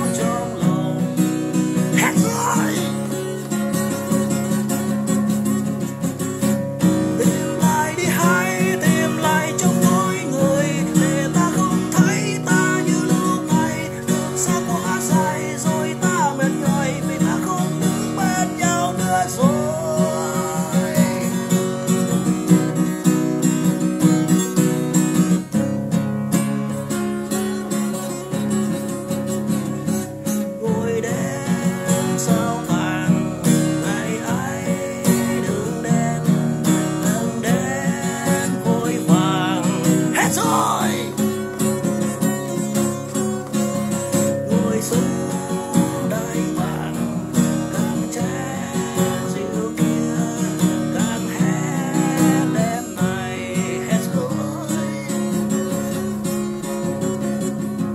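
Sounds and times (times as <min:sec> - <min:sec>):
man singing: 0:00.0 - 0:04.5, 0:06.9 - 0:22.9, 0:27.3 - 0:57.0
acoustic guitar playing: 0:00.0 - 0:57.9.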